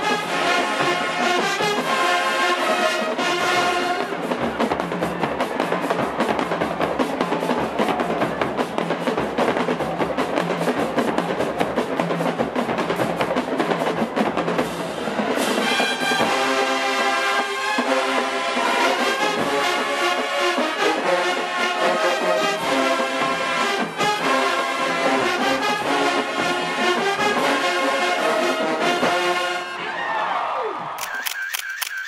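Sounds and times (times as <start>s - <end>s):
marching drums and cymbals: 0.0s - 29.7s
marching band brass: 0.0s - 31.0s.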